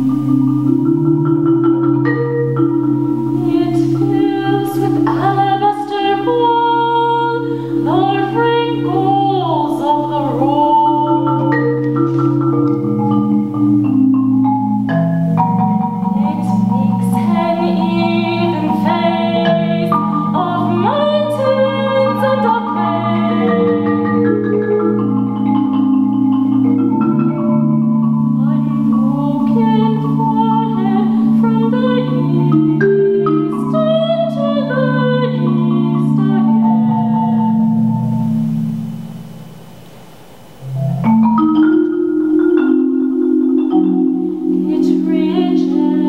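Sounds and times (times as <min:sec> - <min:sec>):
marimba tremolo chords: 0:00.0 - 0:46.0
soprano singing: 0:01.5 - 0:13.0, 0:15.4 - 0:27.4, 0:28.1 - 0:38.2, 0:42.6 - 0:46.0.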